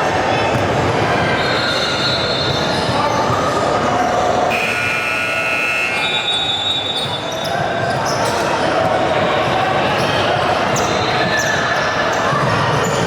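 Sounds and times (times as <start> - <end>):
crowd and court noise: 0.0 - 13.0.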